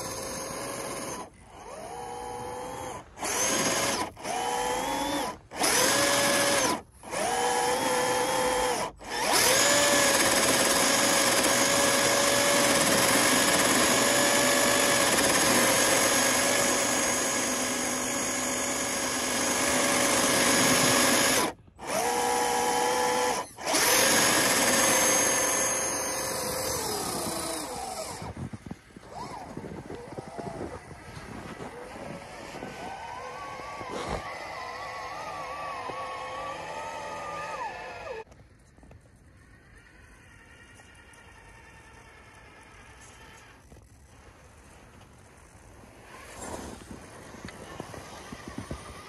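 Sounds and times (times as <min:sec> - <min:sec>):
rc truck electric motor whine: 0:00.0 - 0:49.0.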